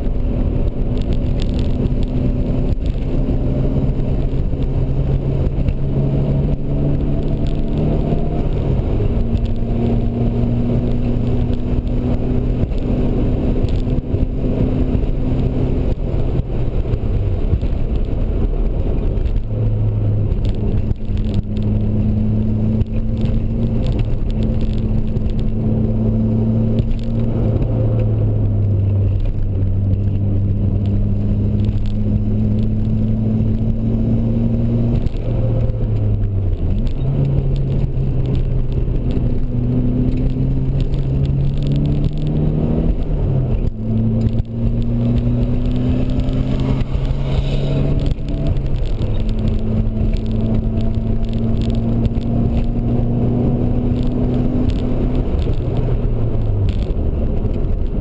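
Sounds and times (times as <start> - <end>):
car engine running hard: 0.0 - 58.0
road and wind noise: 0.0 - 58.0.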